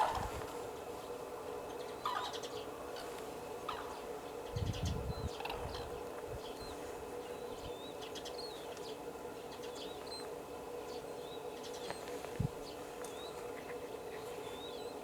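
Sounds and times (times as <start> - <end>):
steady low hum: 0.0 - 15.0
small birds chirping: 0.7 - 15.0.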